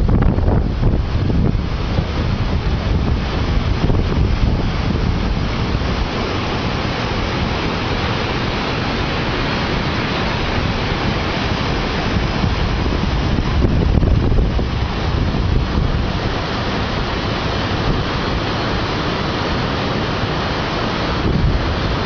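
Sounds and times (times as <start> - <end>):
waterfall rushing: 0.0 - 22.0
wind rumble on microphone: 0.0 - 22.0.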